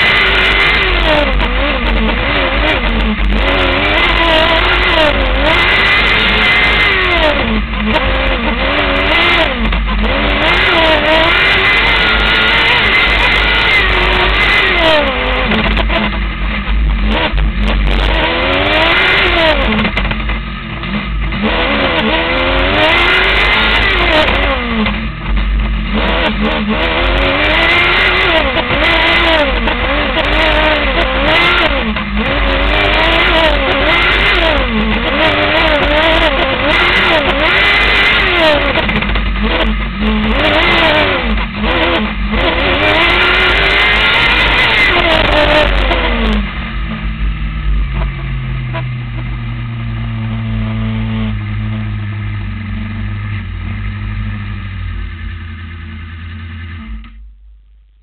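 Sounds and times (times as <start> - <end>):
steady low rumble: 0.0 - 22.7, 23.3 - 37.6, 45.0 - 58.0
race car engine revving: 0.0 - 57.2.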